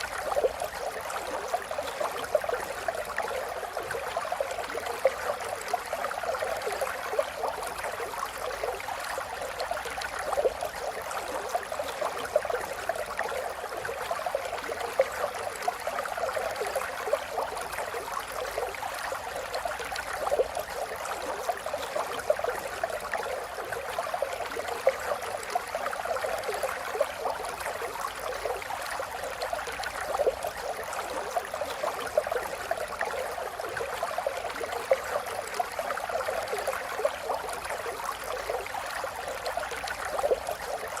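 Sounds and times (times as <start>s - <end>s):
river flowing over stones: 0.0s - 41.0s.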